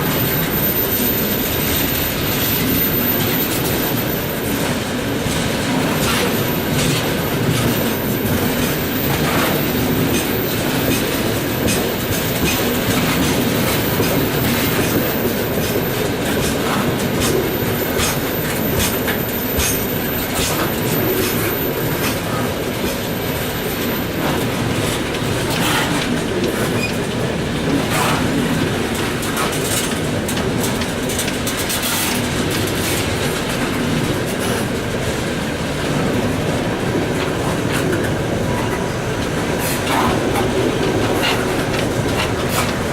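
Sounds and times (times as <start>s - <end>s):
freight train rumbling: 0.0s - 42.9s
wheels clacking over rail joints: 0.0s - 42.9s.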